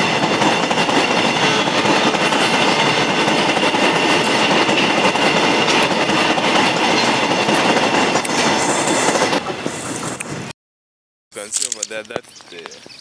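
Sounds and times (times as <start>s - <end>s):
train wheels rumbling on rails: 0.0s - 10.5s.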